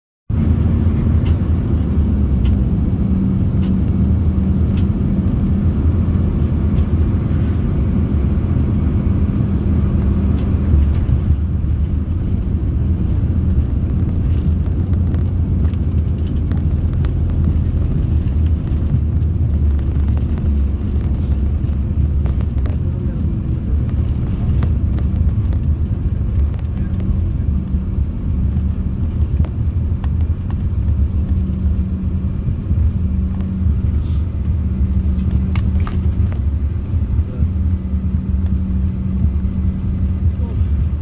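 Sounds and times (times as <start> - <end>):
jet aircraft deep rumble: 0.3 - 41.0.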